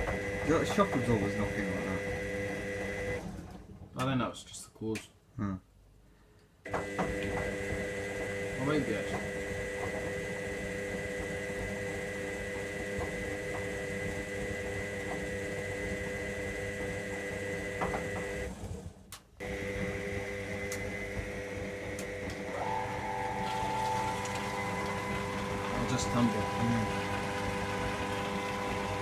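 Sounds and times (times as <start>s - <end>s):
washing machine motor whine: 0.0s - 3.8s, 6.7s - 29.0s.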